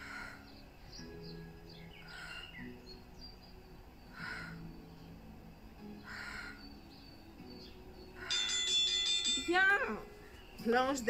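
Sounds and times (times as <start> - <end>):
harsh bird calls: 0.0 - 11.0
soft background music: 0.0 - 11.0.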